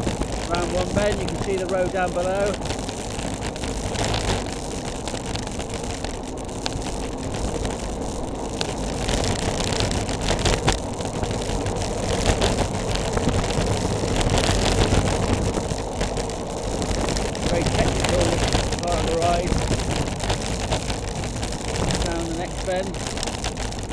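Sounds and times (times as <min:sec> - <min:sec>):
bicycle tyres rumbling on road: 0:00.0 - 0:23.9
wind rushing over microphone: 0:00.0 - 0:23.9.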